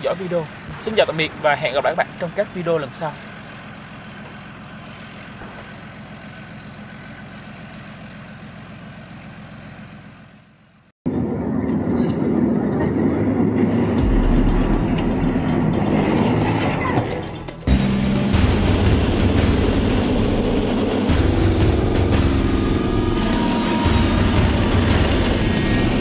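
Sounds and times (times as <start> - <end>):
tank driving fast over dirt: 0.0 - 22.6
tank engine running: 0.0 - 26.0.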